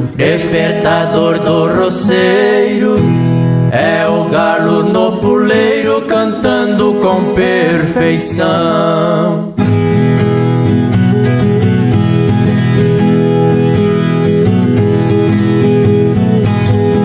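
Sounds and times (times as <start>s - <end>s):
acoustic guitars strummed: 0.0s - 17.0s.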